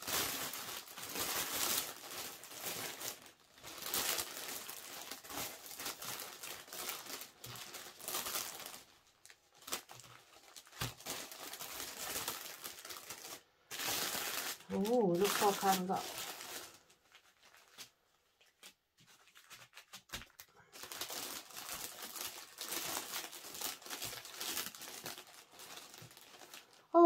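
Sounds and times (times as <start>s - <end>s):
packaging crinkling: 0.0s - 27.0s.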